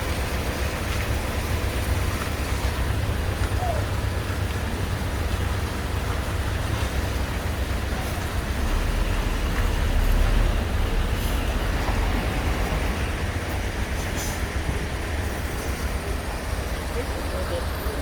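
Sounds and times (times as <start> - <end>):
low vehicle rumble: 0.0 - 18.0.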